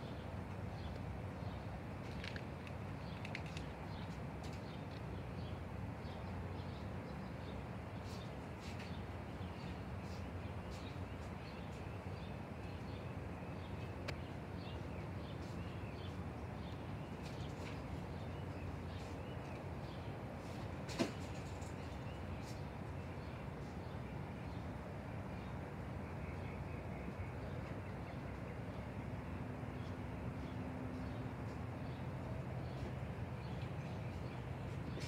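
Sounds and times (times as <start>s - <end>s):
birds chirping: 0.1s - 35.0s.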